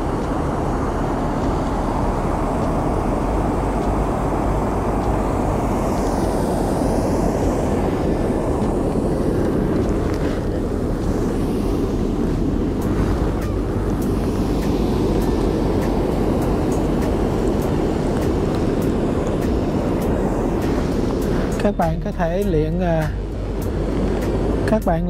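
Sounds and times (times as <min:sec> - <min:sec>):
water roaring over a weir: 0:00.0 - 0:25.0.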